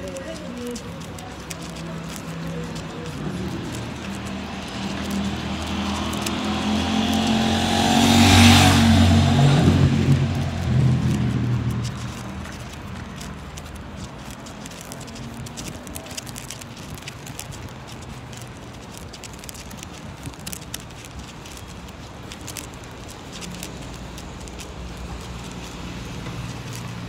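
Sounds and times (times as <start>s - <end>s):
small clicks: 0.0s - 7.5s, 10.1s - 27.0s.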